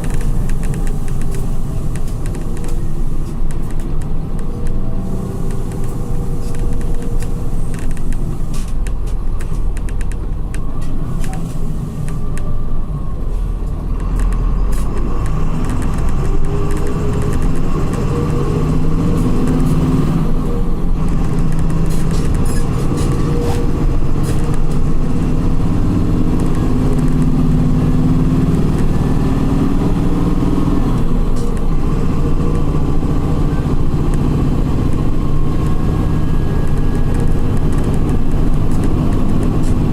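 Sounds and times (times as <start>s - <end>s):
coach diesel engine running: 0.0s - 39.9s.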